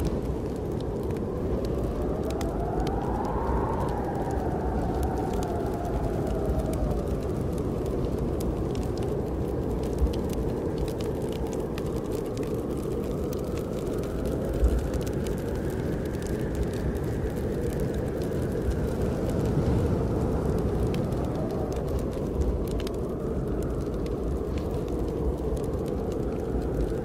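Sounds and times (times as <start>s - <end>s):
snowstorm wind blowing: 0.0s - 27.0s
wood fire crackling: 0.0s - 27.0s.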